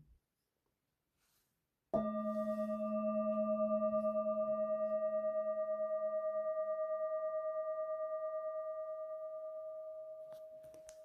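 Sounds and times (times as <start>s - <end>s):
singing bowl ringing: 2.0s - 10.9s.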